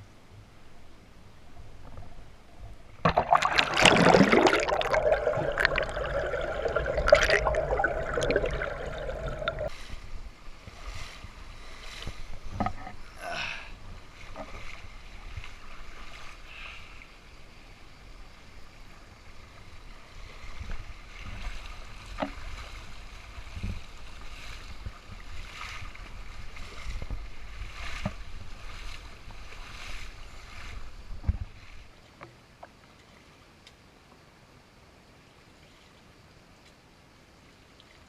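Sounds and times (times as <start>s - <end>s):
creek water splashing and rushing: 0.6s - 12.5s, 13.4s - 33.6s.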